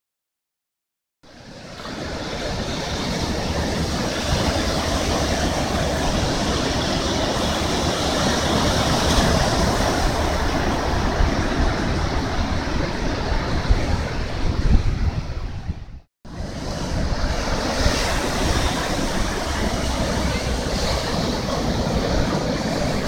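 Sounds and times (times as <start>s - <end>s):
ocean waves washing onto beach: 1.3s - 23.0s
wind rumbling on microphone: 1.3s - 23.0s.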